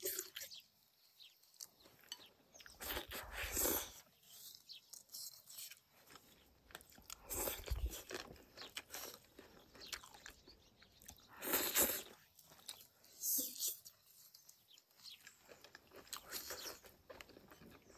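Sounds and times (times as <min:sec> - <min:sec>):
person chewing and crunching food: 0:01.3 - 0:17.9.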